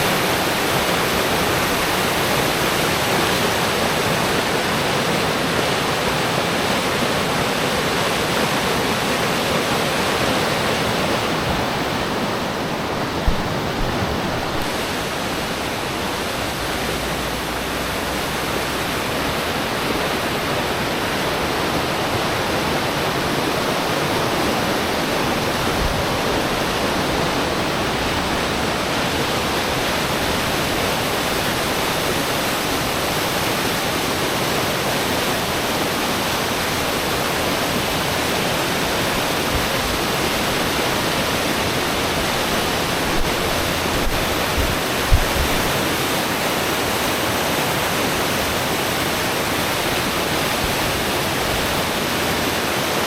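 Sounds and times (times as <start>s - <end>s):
falling water rushing: 0.0s - 53.0s.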